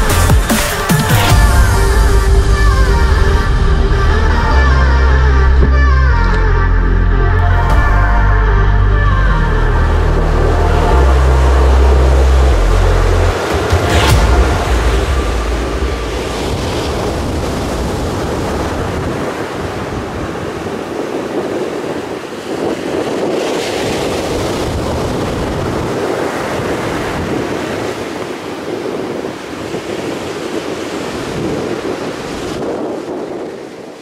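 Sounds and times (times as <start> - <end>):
heavy surf breaking: 0.0 - 34.0
wind buffeting microphone: 1.3 - 34.0.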